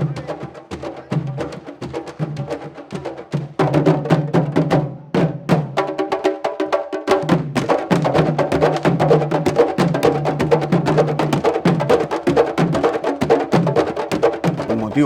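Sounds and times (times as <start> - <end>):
drums playing fast rhythm: 0.0 - 15.0.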